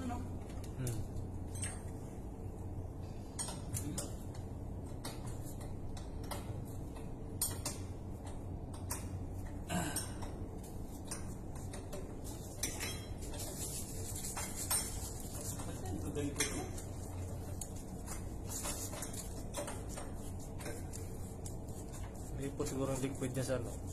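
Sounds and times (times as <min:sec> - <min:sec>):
low machinery hum: 0:00.0 - 0:23.9.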